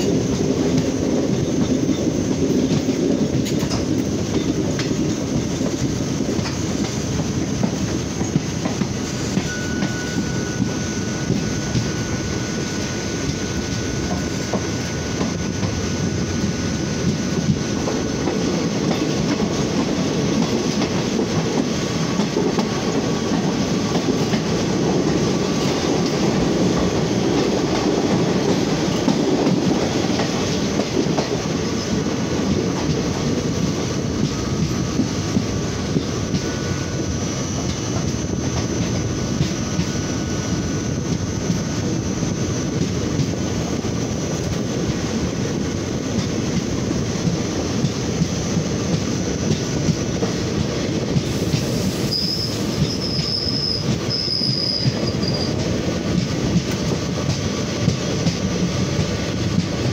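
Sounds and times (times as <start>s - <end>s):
rail clatter: 0.0s - 12.0s, 12.8s - 36.7s, 42.7s - 59.9s
train wheels rumbling on rails: 0.0s - 59.9s.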